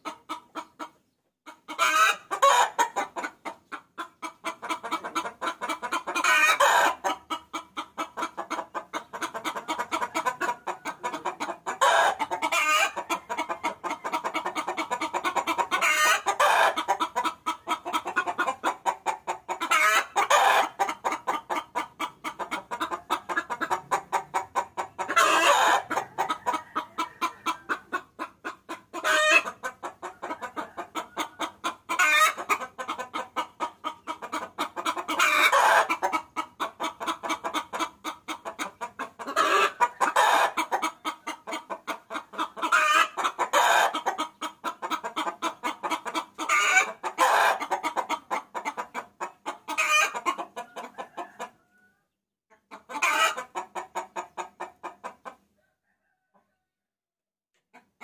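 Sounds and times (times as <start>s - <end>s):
hen cackling: 0.0s - 55.4s.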